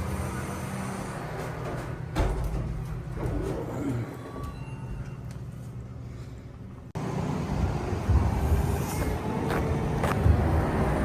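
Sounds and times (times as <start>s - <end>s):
heavy vehicle engines rumbling: 0.0s - 11.0s.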